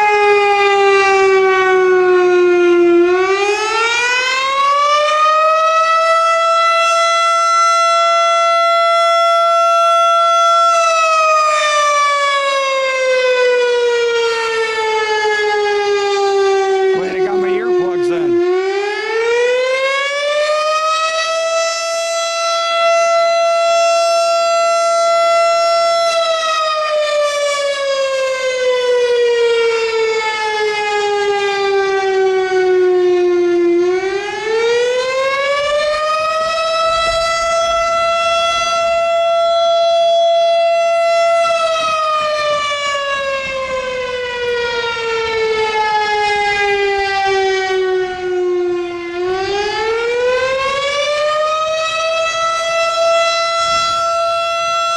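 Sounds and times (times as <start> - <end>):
fire siren wailing: 0.0 - 54.9.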